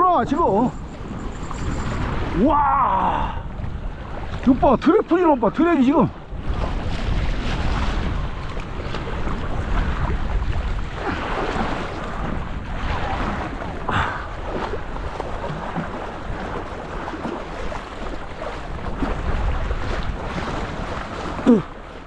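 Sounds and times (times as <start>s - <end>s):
wind buffeting microphone: 0.0s - 22.0s
water lapping against rocks: 3.1s - 22.0s.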